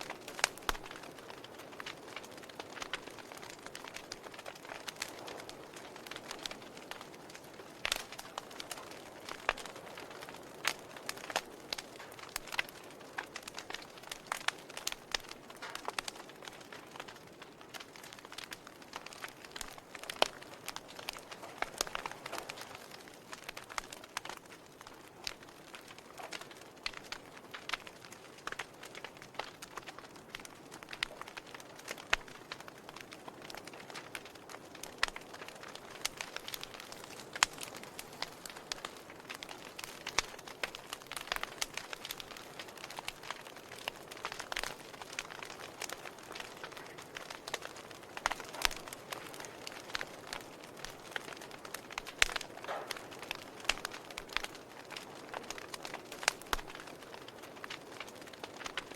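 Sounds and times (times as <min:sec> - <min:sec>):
soft steady fire hiss: 0:00.0 - 0:58.9
wood fire crackling and popping: 0:00.0 - 0:58.9.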